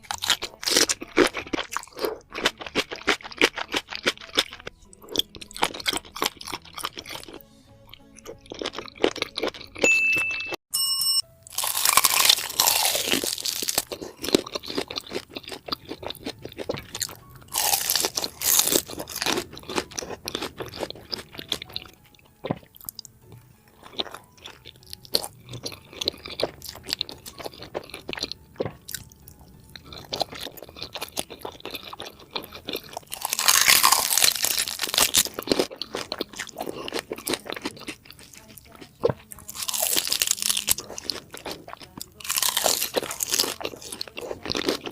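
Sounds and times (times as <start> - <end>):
crunching and chewing food: 0.0 - 9.9, 11.4 - 44.9.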